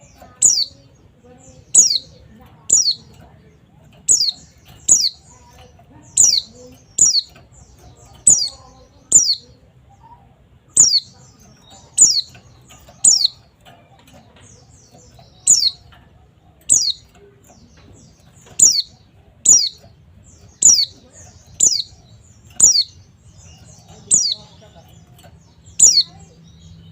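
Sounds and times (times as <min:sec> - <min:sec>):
bird sharp high chirps: 0:00.0 - 0:03.1, 0:04.0 - 0:13.6, 0:14.5 - 0:16.0, 0:16.6 - 0:26.9.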